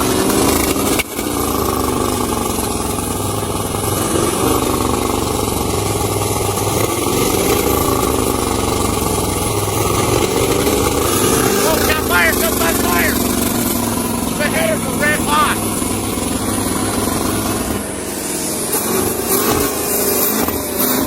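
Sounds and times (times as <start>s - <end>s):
pickup truck engine revving: 0.0s - 21.0s.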